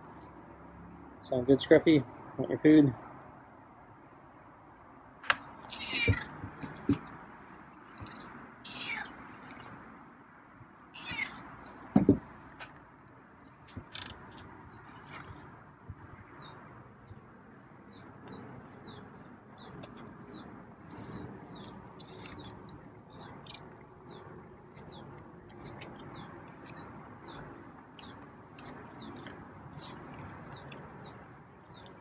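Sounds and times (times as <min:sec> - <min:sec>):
songbird chirping: 0:00.0 - 0:32.0.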